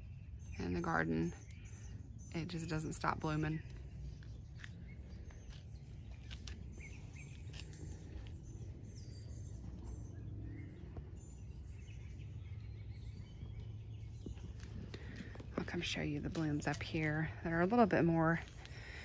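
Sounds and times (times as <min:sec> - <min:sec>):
bird chirps: 0:00.0 - 0:17.5
low rumble: 0:00.0 - 0:19.0.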